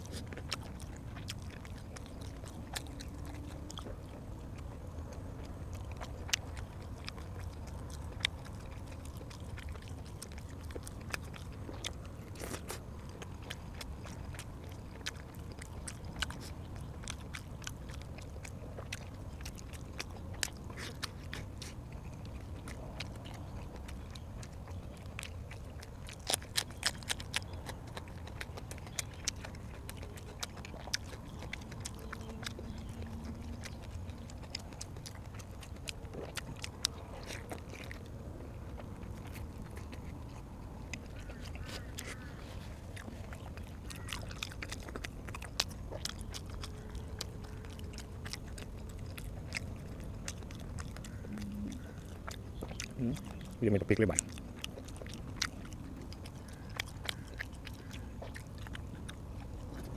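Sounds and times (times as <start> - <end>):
person chewing food: 0.0 - 59.9
steady low hum: 0.0 - 59.9
wet mouth clicks: 0.0 - 59.9.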